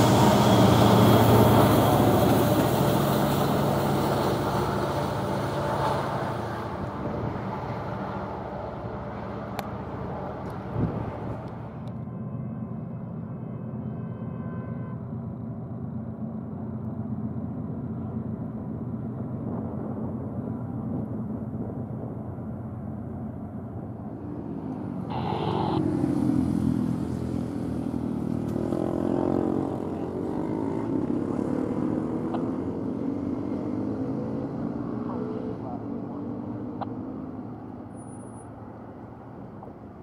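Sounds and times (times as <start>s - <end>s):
diesel locomotives rumbling: 0.0s - 33.2s
road traffic: 0.0s - 40.0s.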